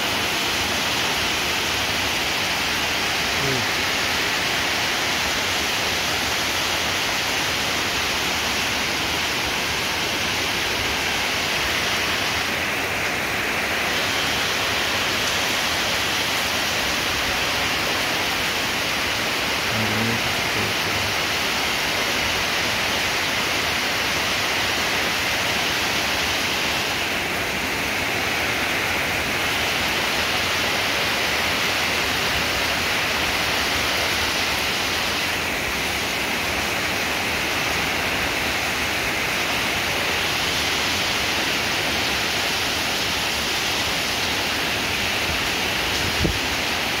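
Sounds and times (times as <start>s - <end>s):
heavy rain hissing: 0.0s - 47.0s.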